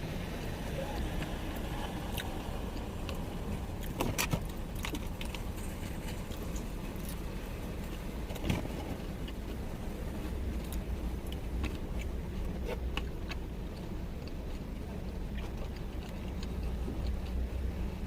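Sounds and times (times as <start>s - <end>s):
low rumble inside a van: 0.0s - 18.0s
chewing and crunching food: 0.4s - 18.0s.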